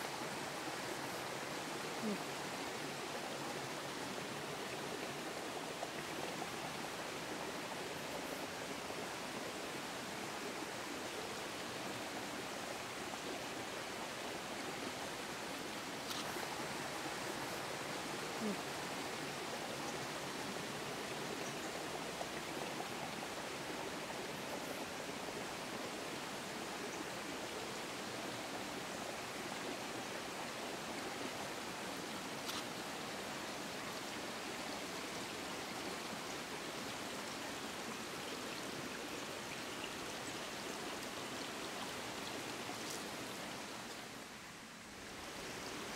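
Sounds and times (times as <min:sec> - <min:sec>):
forest stream running water: 0:00.0 - 0:45.9.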